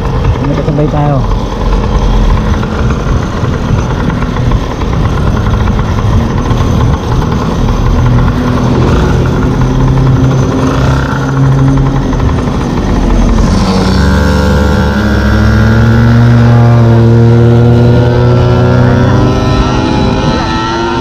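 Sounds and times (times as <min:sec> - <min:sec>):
low rumble: 0:00.0 - 0:21.0
small two-stroke engines running: 0:00.0 - 0:21.0.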